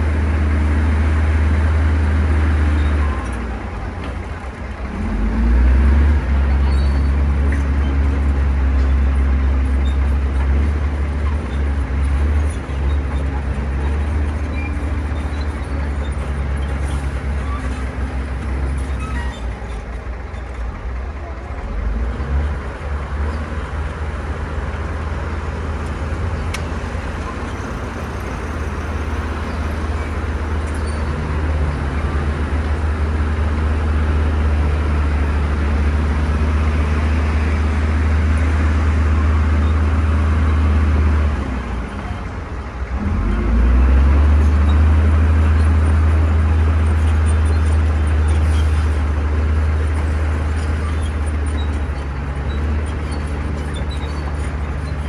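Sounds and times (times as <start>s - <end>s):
bulldozer diesel engine: 0.0s - 55.0s
track and soil noise: 0.0s - 55.0s.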